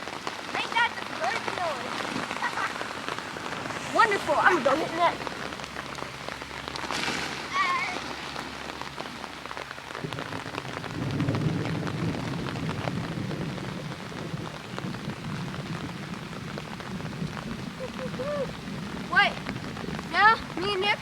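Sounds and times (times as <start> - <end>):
heavy rain falling: 0.0 - 21.0
thunder rumbling: 0.0 - 21.0.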